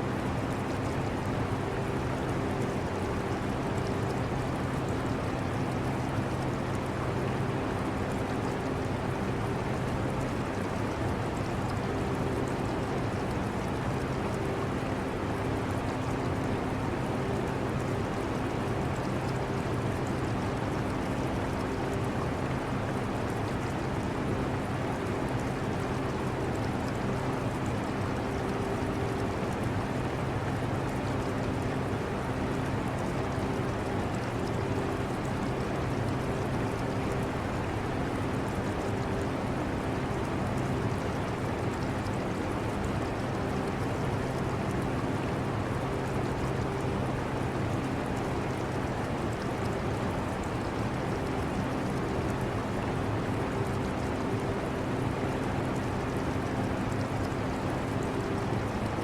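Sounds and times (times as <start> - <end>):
aquarium water trickling: 0.1 - 59.0.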